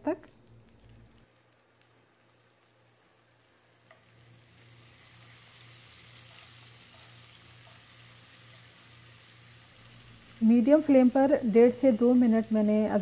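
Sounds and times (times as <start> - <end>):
paste sizzling in hot oil: 0.8 - 13.0.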